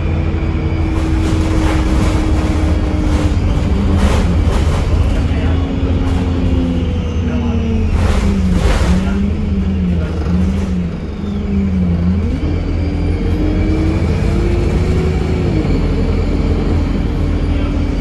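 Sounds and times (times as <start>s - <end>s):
bus diesel engine under load: 0.0s - 18.0s.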